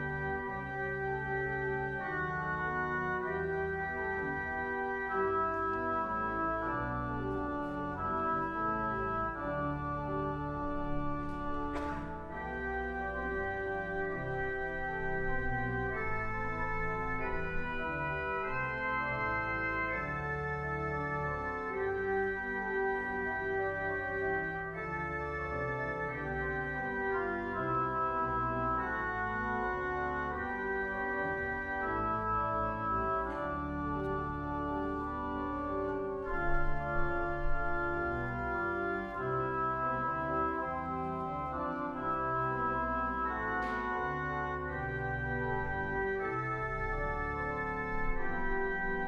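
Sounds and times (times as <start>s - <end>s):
church organ chords: 0.0s - 49.0s.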